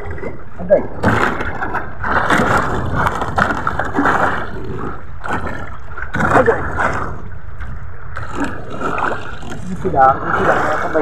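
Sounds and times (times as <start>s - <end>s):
water splashing against hull: 0.0s - 11.0s.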